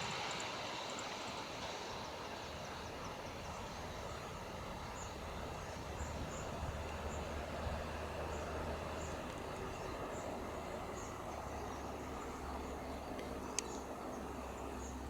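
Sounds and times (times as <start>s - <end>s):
distant diesel locomotive rumble: 0.0s - 15.0s.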